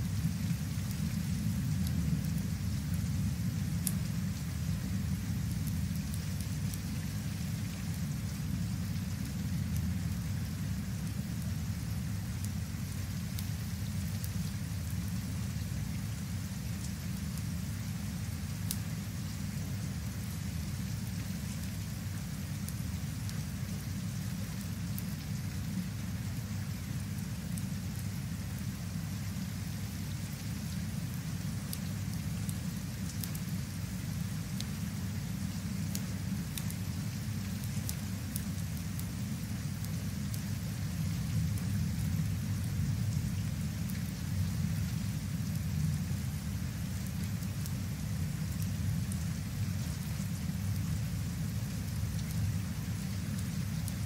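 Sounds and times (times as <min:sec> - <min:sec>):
light rain ticks: 0:00.0 - 0:54.0
rain hiss: 0:00.0 - 0:54.0.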